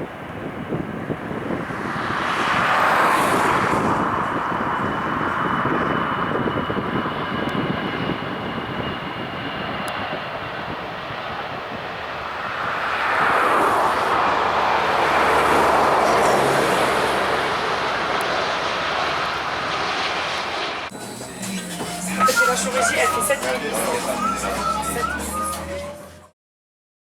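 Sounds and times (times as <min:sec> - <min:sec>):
jet airliner flying past: 0:00.0 - 0:26.3.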